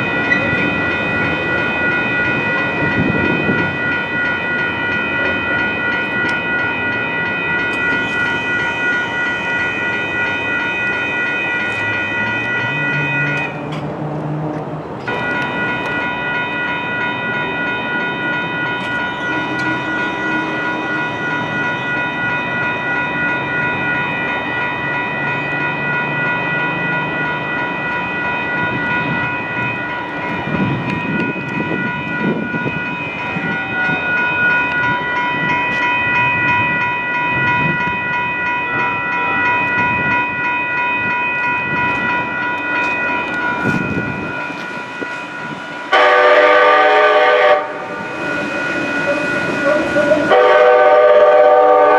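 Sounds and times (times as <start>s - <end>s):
crossing warning bells ringing: 0.0s - 51.9s
train rumbling past: 0.0s - 51.9s.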